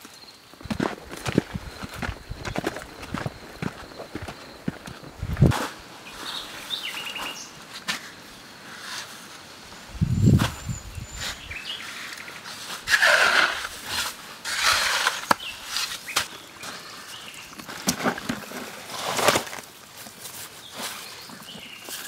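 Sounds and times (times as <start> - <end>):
shovel scraping gravelly soil: 0.6 - 9.3, 10.2 - 21.2.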